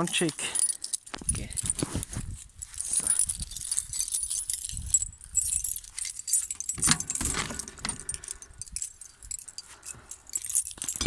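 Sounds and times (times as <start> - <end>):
keys jangling: 0.2 - 11.0.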